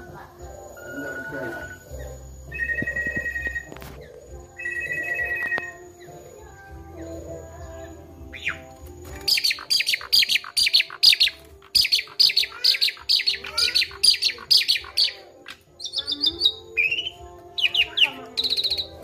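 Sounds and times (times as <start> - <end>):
starling calling: 0.0 - 19.0.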